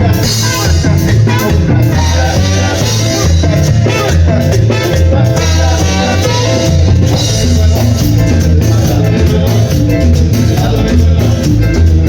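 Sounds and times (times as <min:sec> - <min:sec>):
live band playing dance music: 0:00.0 - 0:12.0.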